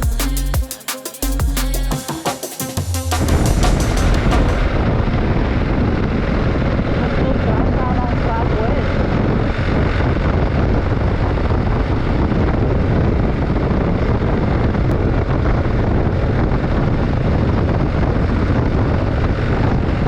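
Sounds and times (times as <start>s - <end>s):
wind rushing over microphone: 3.2s - 20.0s.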